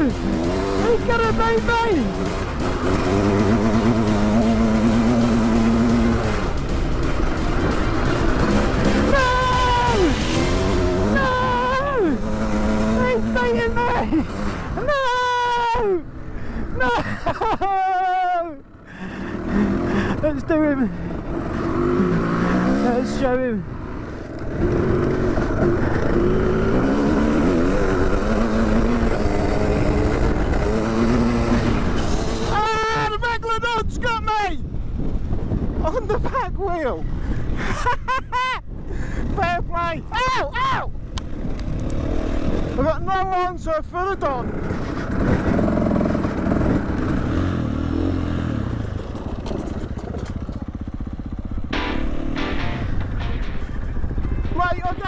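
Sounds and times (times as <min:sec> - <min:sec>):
dirt bike engine running hard: 0:00.0 - 0:34.0, 0:34.6 - 0:39.9, 0:40.8 - 0:55.0.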